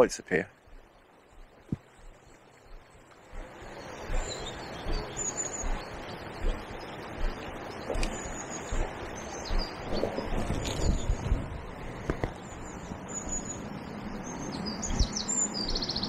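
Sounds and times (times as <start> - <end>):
small birds chirping: 0.0 - 16.0
fast-flowing river water: 0.1 - 16.0
low bumps: 0.6 - 16.0.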